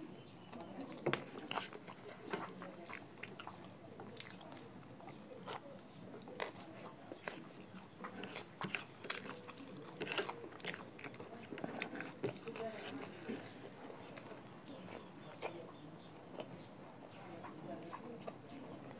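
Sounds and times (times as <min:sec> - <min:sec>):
person chewing food: 0:00.5 - 0:16.7.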